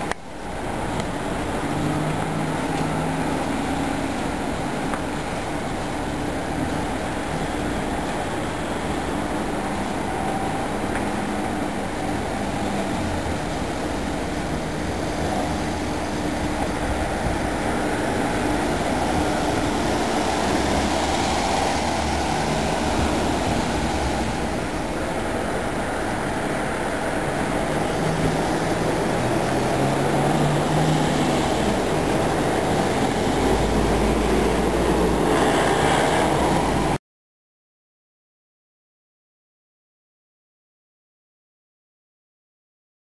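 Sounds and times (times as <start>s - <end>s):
vehicles driving past: 0.0s - 37.0s.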